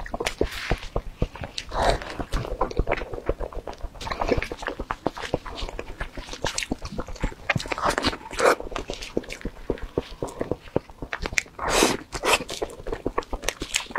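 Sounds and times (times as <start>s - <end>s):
lip smacks: 0.0s - 13.9s
wet chewing: 0.0s - 13.9s.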